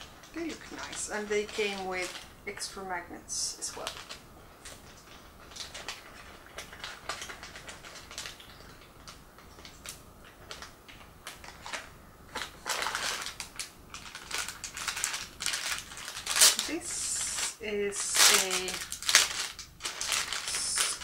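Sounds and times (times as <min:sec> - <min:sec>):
packaging rustling: 0:00.0 - 0:02.4, 0:03.7 - 0:21.0.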